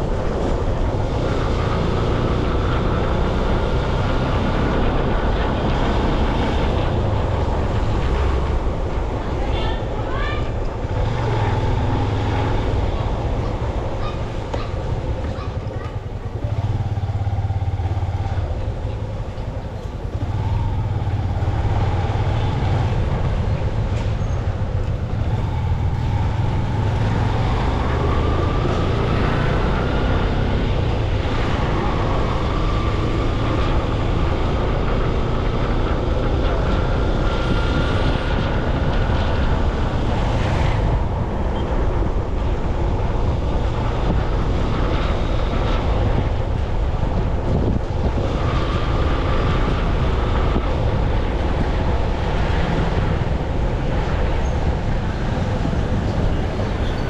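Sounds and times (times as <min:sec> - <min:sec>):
wind noise on microphone: 0:00.0 - 0:57.0
motorcycle engine running: 0:10.8 - 0:57.0.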